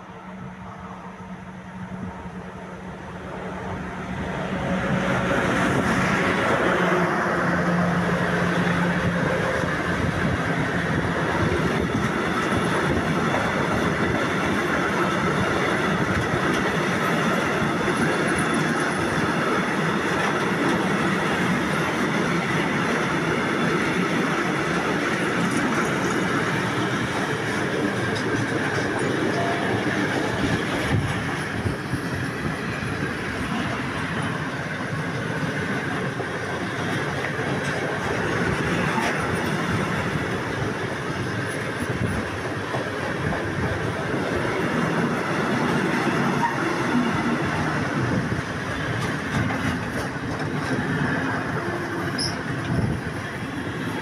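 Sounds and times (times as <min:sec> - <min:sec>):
locomotive humming: 0:00.0 - 0:54.0
train wheels on rails: 0:00.0 - 0:54.0.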